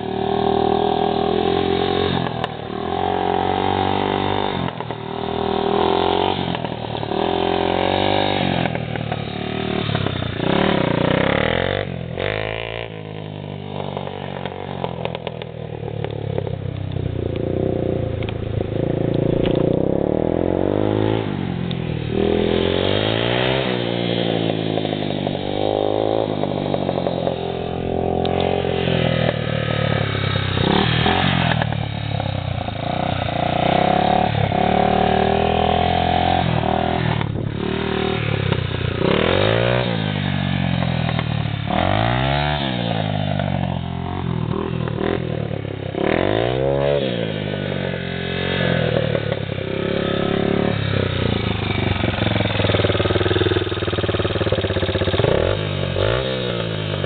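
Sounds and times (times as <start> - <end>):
dirt bike engine revving: 0.0 - 15.0, 15.7 - 57.0.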